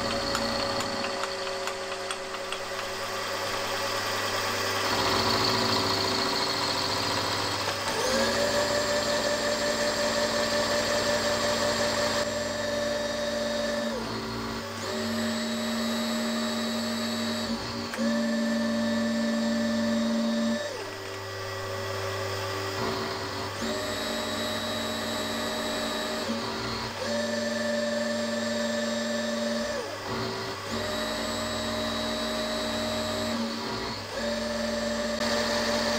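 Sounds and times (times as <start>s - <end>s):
end mill cutting aluminium: 0.0s - 35.9s
milling machine motor whine: 0.0s - 35.9s.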